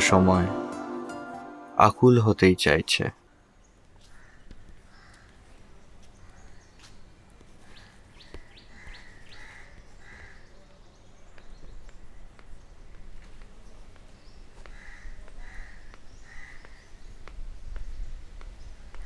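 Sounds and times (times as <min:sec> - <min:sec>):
street background hum: 0:01.8 - 0:19.0
small birds chirping: 0:03.5 - 0:19.0.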